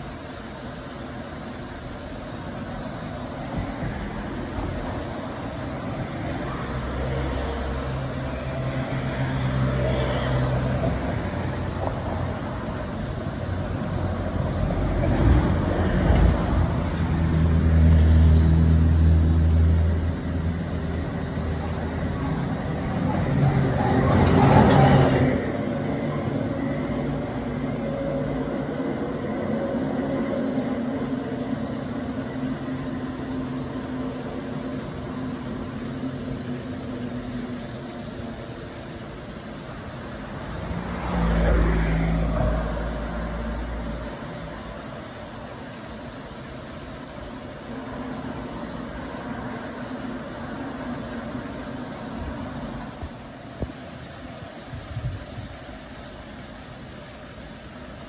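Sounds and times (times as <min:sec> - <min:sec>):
engine drone of passing traffic: 0:00.0 - 0:58.0.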